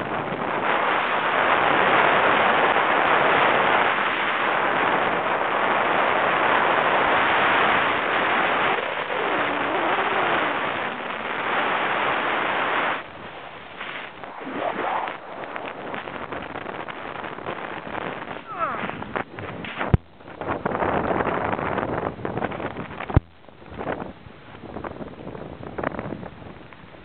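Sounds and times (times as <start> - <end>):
wind buffeting a microphone: 0.0 - 27.0.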